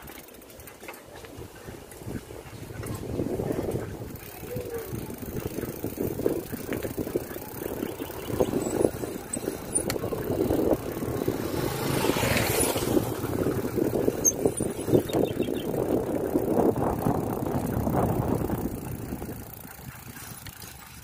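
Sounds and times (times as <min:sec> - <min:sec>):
bike rattling and knocking: 0:00.0 - 0:21.0.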